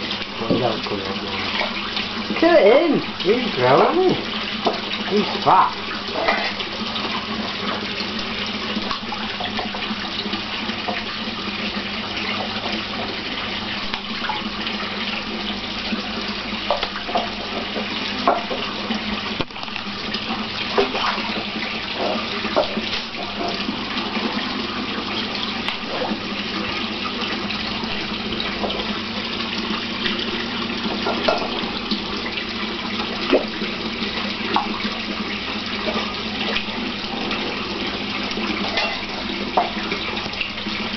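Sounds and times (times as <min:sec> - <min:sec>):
running water rushing: 0:00.0 - 0:40.9
water splashes: 0:00.0 - 0:40.9.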